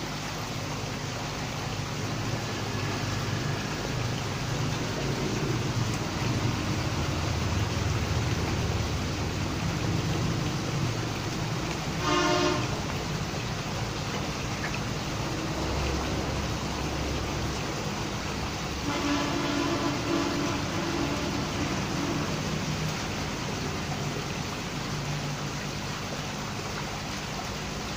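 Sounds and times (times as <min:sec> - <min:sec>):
water rushing in tank: 0:00.0 - 0:27.9.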